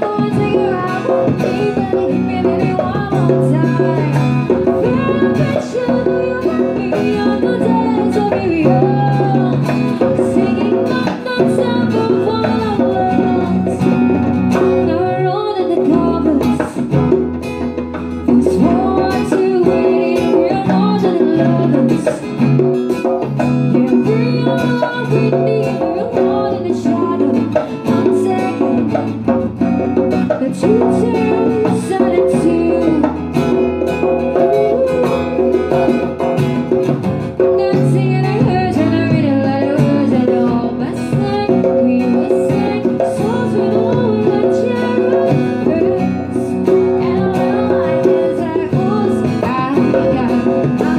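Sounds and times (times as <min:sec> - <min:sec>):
djembe hand drum: 0:00.0 - 0:50.9
strummed guitar: 0:00.0 - 0:50.9
woman singing: 0:00.0 - 0:50.9.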